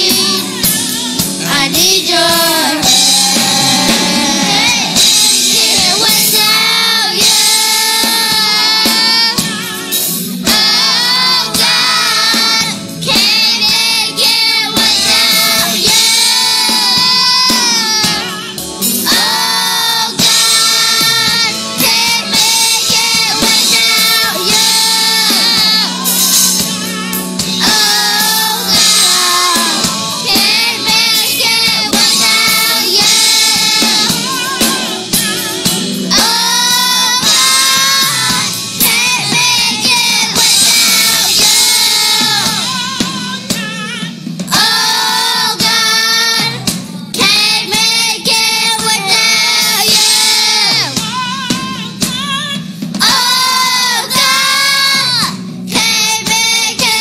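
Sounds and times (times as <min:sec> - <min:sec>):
children's choir singing: 0:00.0 - 0:57.0
keyboard accompaniment: 0:00.0 - 0:57.0.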